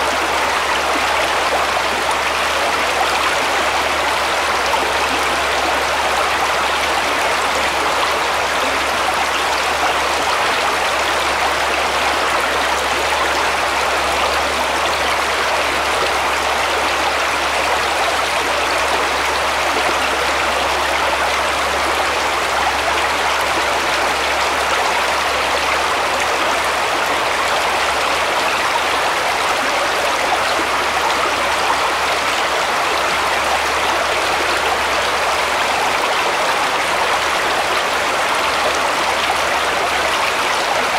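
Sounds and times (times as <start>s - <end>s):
brook flowing over stones: 0.0s - 40.9s.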